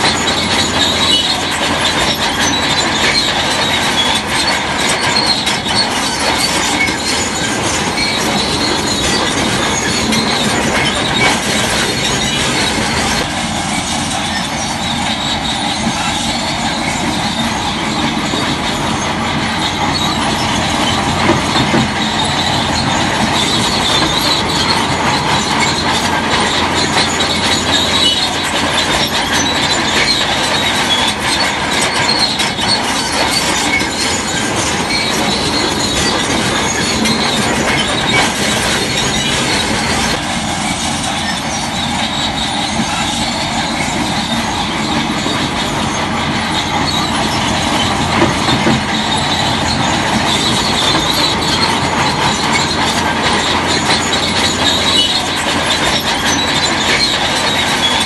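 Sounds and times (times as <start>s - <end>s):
diesel engine running: 0.0s - 58.0s
steel tracks squealing and clanking: 0.0s - 58.0s.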